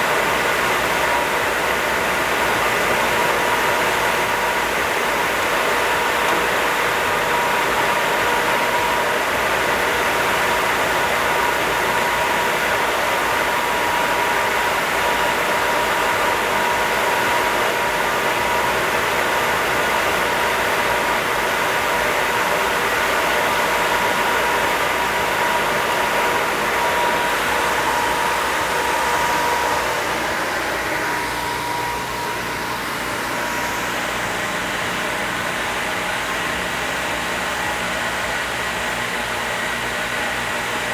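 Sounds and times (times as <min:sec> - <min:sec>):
planer humming and whining: 0:00.0 - 0:40.9.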